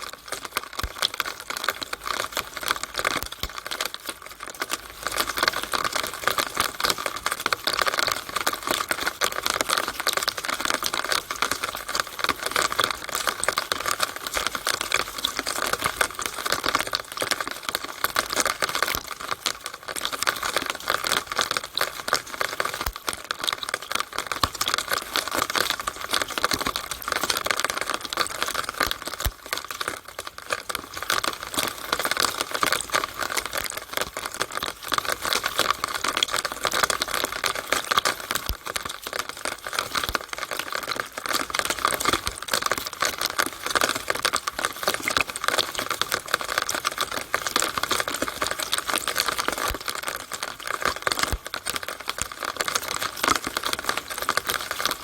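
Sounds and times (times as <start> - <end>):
rainwater pouring through downpipe: 0.0 - 55.0.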